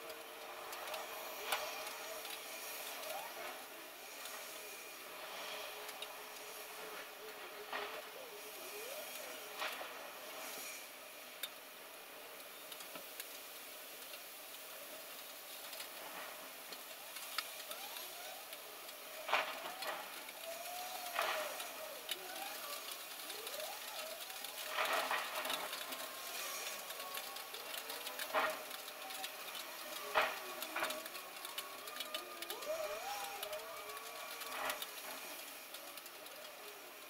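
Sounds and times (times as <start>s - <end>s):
rain hissing outside window: 0.0s - 37.0s.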